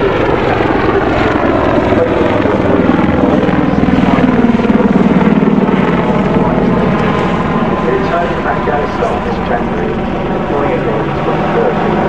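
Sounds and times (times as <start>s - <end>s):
helicopter rotors beating: 0.0s - 12.0s
low hum: 0.0s - 12.0s.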